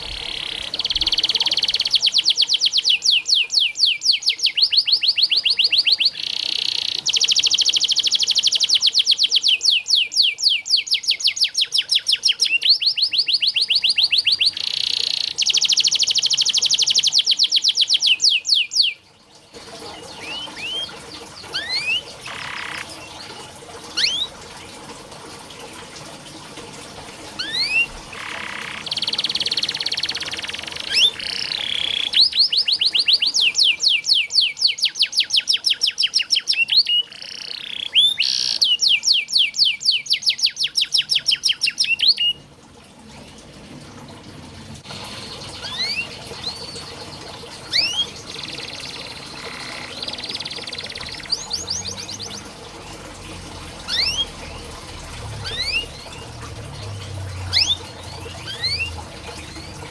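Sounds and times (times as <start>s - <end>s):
canary singing: 0.0s - 19.0s, 19.9s - 24.3s, 27.4s - 42.4s, 45.0s - 52.6s, 53.8s - 54.7s, 55.3s - 59.9s.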